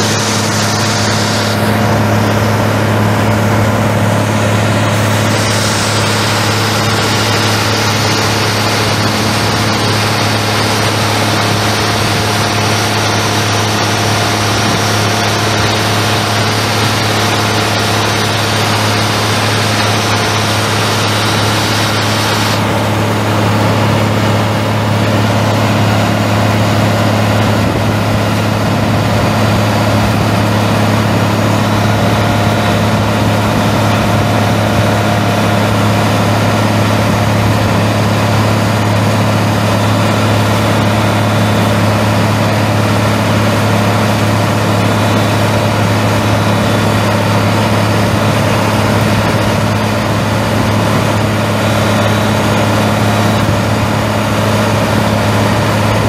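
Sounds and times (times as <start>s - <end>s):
diesel engine humming steadily: 0.0s - 56.0s.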